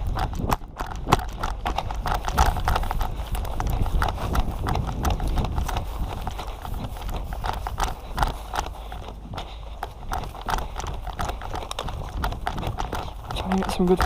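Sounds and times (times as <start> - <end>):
footsteps: 0.0 - 14.0
kit rattling: 0.0 - 14.0
steady low rumble: 0.0 - 14.0.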